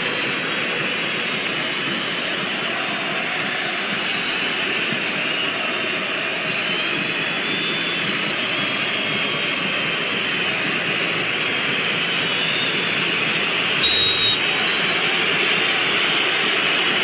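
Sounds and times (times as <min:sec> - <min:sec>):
stadium crowd roaring: 0:00.0 - 0:17.0.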